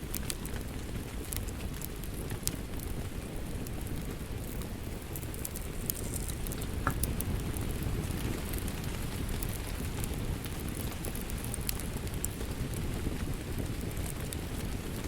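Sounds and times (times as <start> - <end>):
fire popping: 0.0 - 15.0
rain pattering: 0.0 - 15.0
wood fire crackling: 0.0 - 15.0.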